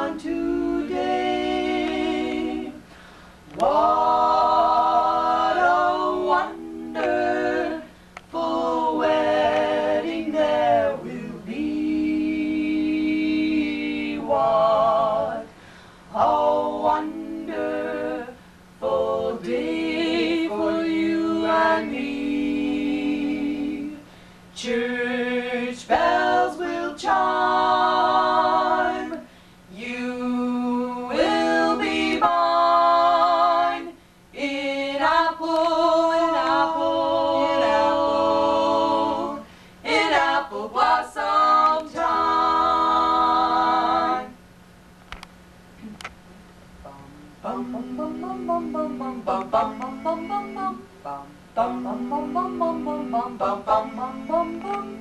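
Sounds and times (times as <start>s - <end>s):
female vocal trio singing a cappella: 0.0s - 44.5s, 46.8s - 55.0s.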